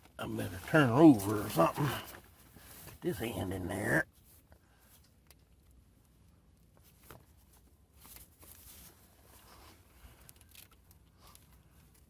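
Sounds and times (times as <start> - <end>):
faint rustling: 0.1 - 3.4, 4.1 - 12.0.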